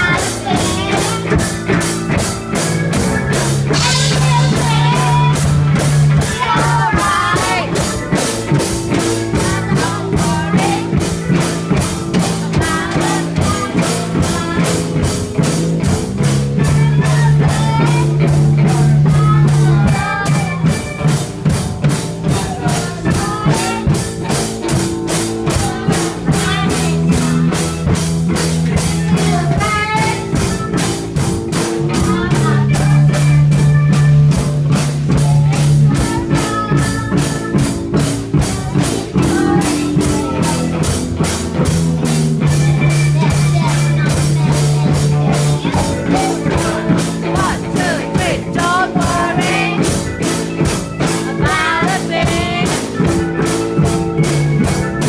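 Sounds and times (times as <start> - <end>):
bass notes: 0.0 - 55.0
live band playing: 0.0 - 55.0.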